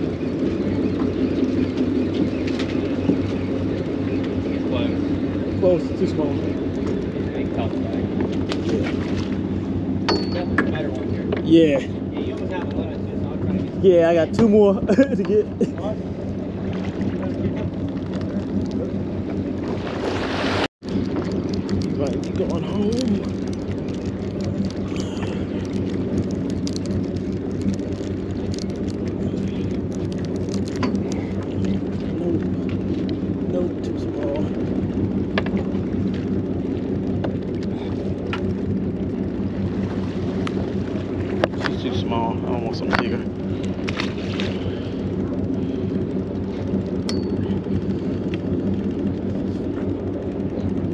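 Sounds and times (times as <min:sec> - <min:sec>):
boat engine humming: 0:00.0 - 0:50.9
water washing against hull: 0:00.0 - 0:50.9.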